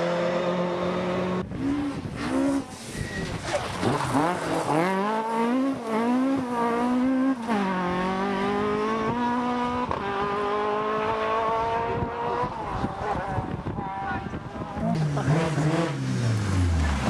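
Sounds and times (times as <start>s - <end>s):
rally car engine at full throttle: 0.0s - 17.0s.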